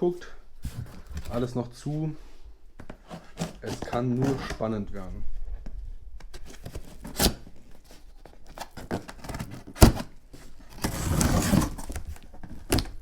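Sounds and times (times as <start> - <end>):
tape and cardboard rustling: 0.6 - 2.0, 2.8 - 13.0.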